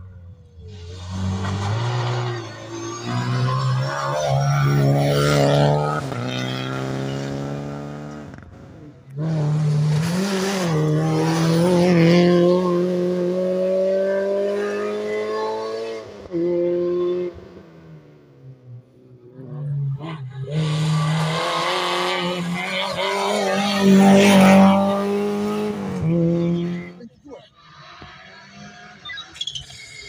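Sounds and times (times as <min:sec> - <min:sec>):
rally car engine at high revs: 0:00.0 - 0:30.0.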